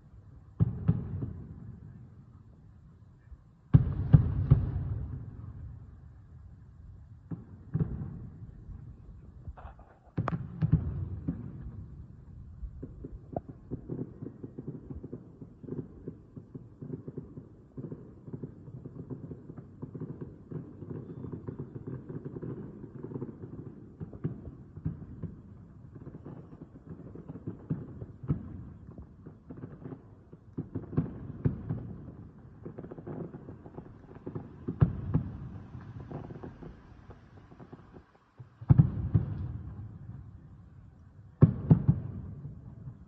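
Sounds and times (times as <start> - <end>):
distant fireworks popping and crackling: 0.0 - 43.0.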